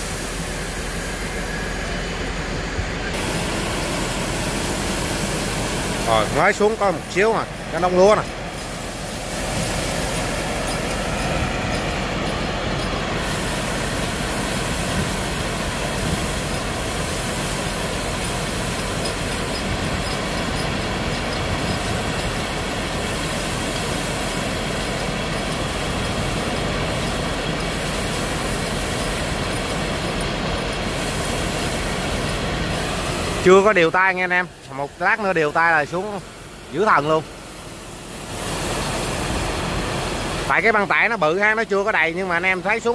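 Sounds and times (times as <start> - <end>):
rice pouring off conveyor: 3.1 - 33.7, 37.0 - 42.7.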